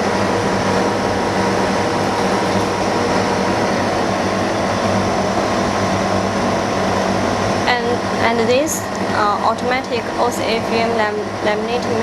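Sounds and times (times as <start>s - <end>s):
ceiling filter fan running: 0.0s - 12.0s.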